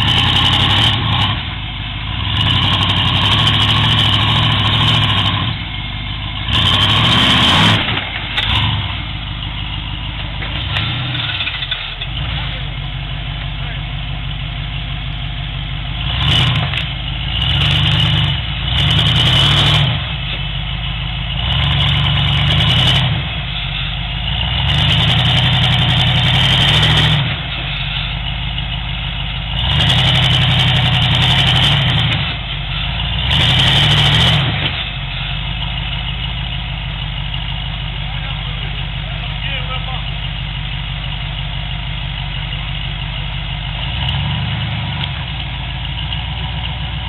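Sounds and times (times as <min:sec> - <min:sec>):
buggy engine idling and revving: 0:00.0 - 0:47.0.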